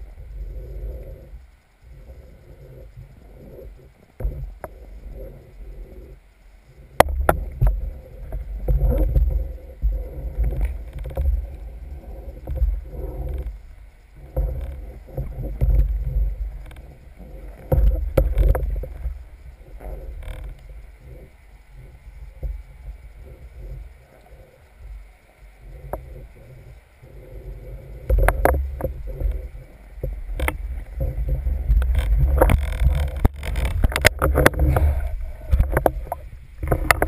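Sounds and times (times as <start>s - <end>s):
muffled underwater rumble: 0.0s - 37.0s.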